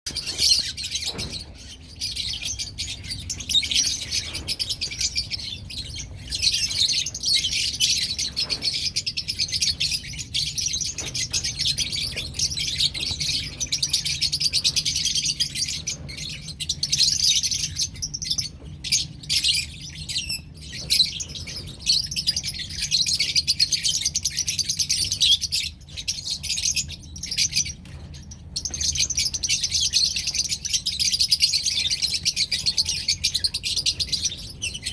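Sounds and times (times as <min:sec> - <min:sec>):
lovebirds chirping and chattering: 0:00.1 - 0:34.9.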